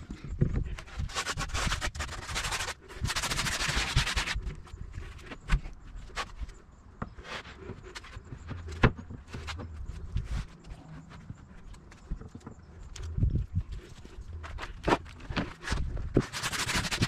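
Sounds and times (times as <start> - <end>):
plywood board scraping: 0.2 - 12.4, 13.7 - 17.0.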